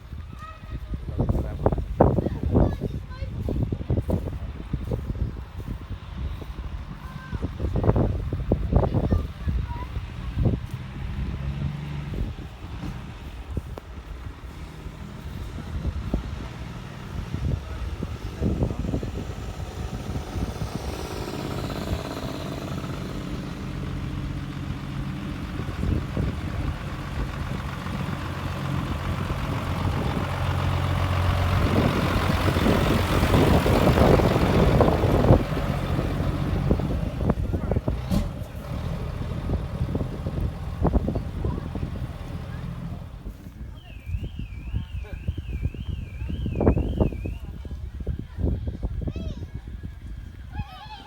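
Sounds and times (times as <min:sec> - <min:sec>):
truck diesel engine running: 0:00.0 - 0:48.8.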